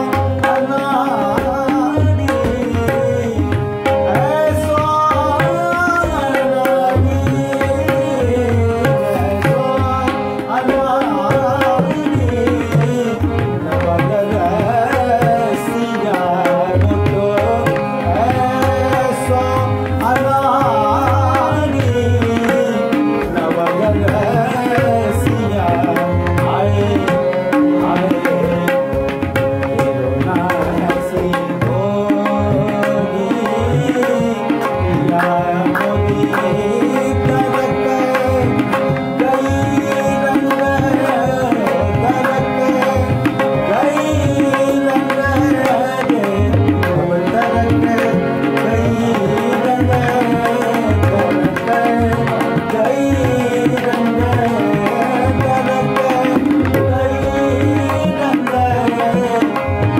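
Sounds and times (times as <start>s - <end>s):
harmonium melody: 0.0s - 59.9s.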